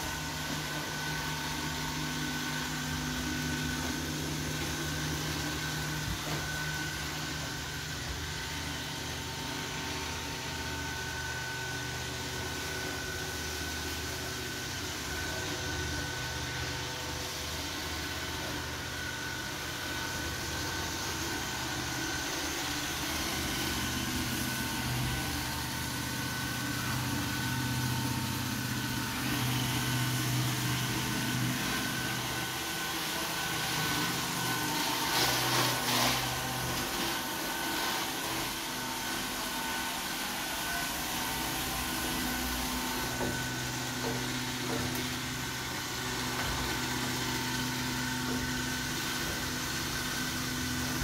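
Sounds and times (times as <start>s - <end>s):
robot vacuum motor hum: 0.0s - 51.0s.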